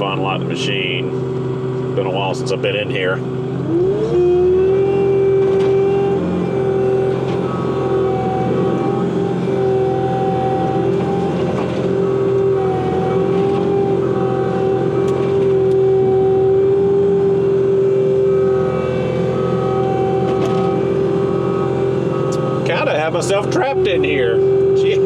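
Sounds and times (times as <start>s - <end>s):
track loader diesel engine: 0.0s - 25.0s.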